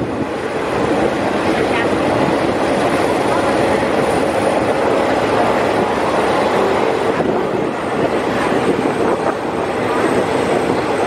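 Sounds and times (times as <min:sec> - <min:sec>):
train wheel and rail noise: 0:00.0 - 0:11.0.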